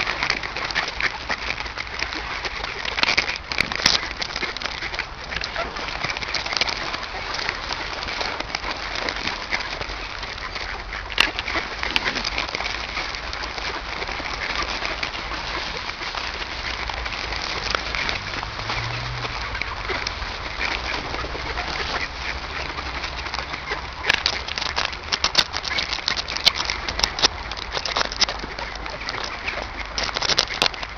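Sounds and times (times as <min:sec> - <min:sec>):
flock of birds chattering: 0:00.0 - 0:30.9.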